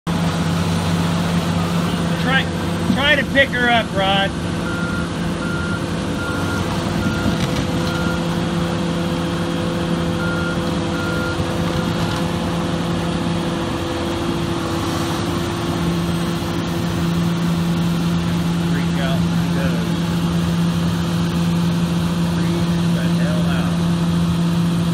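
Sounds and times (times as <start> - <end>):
excavator engine and hydraulics humming: 0.1 - 24.9.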